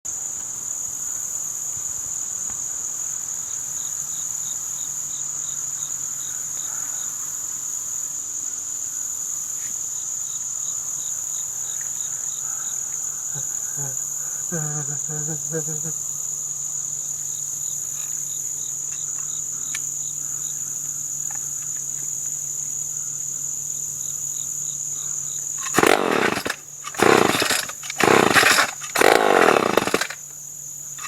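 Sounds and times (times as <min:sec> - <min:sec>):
insects trilling: 0:00.1 - 0:31.0.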